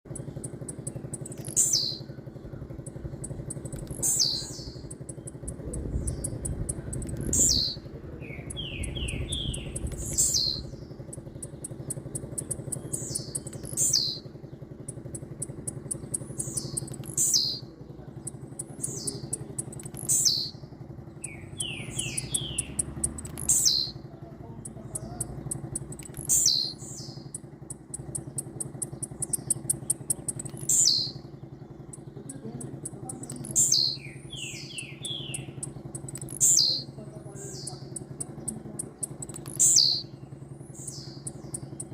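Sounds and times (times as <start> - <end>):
low traffic rumble: 0.0 - 41.9
bird singing descending phrase: 0.1 - 41.9.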